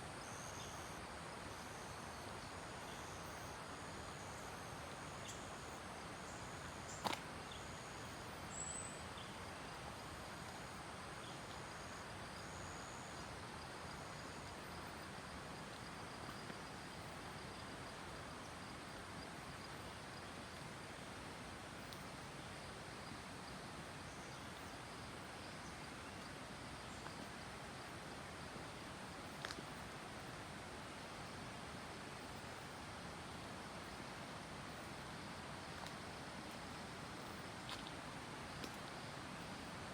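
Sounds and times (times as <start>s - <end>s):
insect chirps: 0.0s - 21.1s, 21.7s - 39.9s
steady forest hiss: 0.0s - 39.9s.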